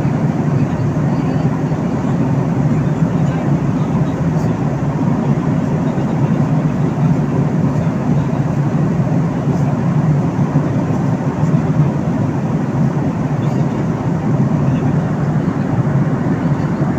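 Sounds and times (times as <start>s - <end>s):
airliner cabin drone: 0.0s - 16.9s.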